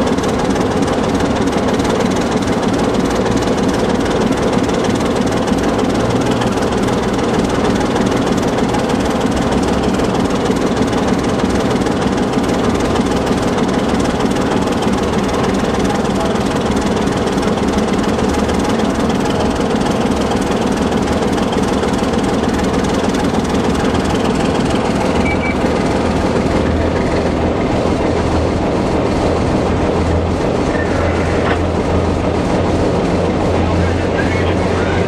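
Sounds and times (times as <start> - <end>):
locomotive engine drone: 0.0 - 35.0
wheel and rail noise: 0.0 - 35.0.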